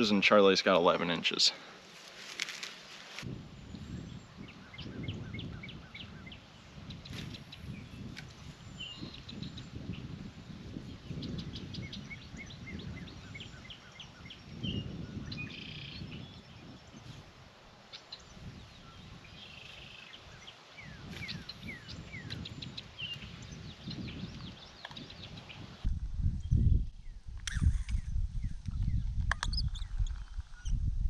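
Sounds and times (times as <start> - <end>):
songbirds chirping: 0.0 - 27.2.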